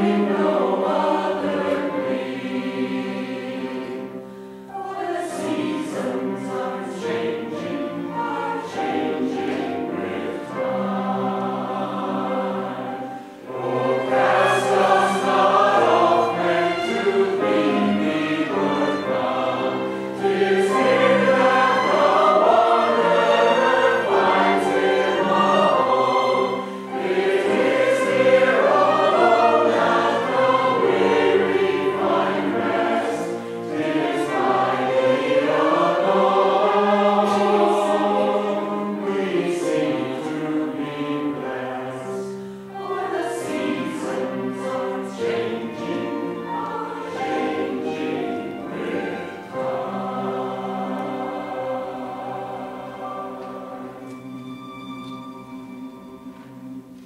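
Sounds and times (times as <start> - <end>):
mixed choir singing a hymn: 0.0 - 55.8
viola and cello: 0.0 - 57.0.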